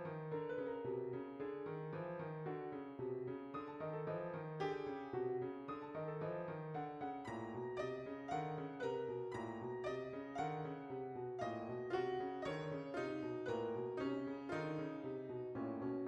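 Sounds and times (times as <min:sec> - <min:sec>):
solo piano playing: 0:00.0 - 0:16.0.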